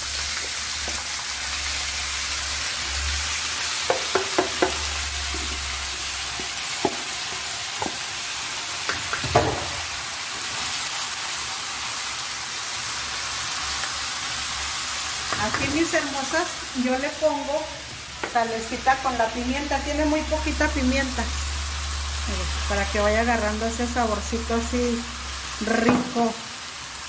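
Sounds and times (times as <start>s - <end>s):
potatoes sizzling in hot oil: 0.0s - 27.0s.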